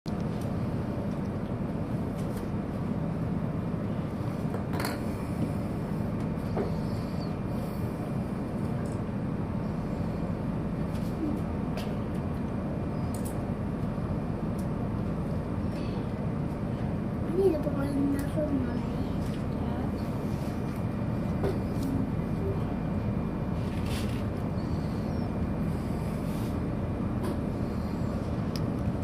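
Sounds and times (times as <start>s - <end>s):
low rumble inside train car: 0.1s - 29.0s.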